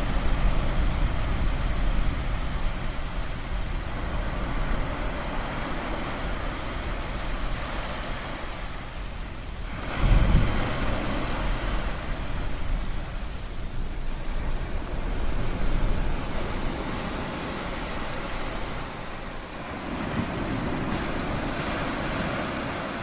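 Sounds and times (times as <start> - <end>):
ocean surf washing: 0.0 - 23.0
wave breaking: 0.0 - 23.0.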